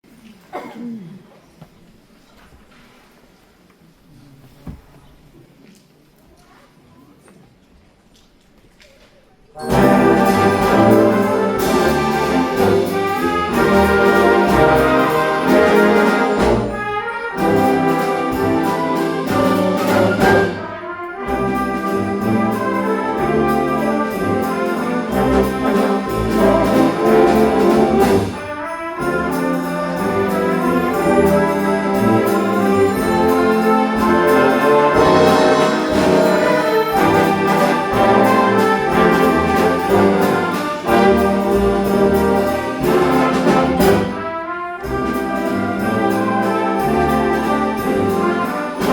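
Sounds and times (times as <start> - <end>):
brass band playing chords: 9.6 - 48.9.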